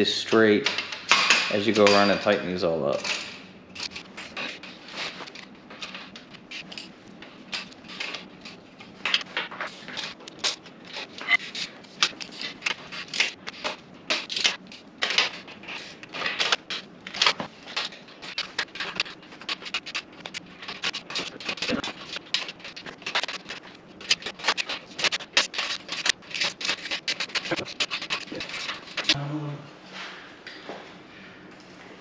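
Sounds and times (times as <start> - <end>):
metallic clicks and scrapes: 3.0 - 29.2.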